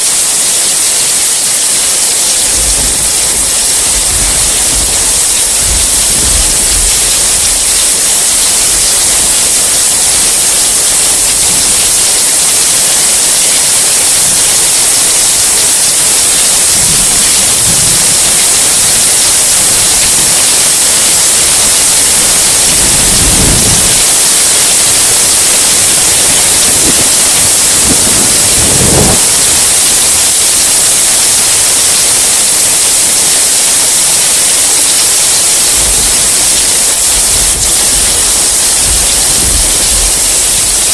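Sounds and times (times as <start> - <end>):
heavy rain: 0.0 - 40.9
distant thunder rumbling: 1.9 - 40.9.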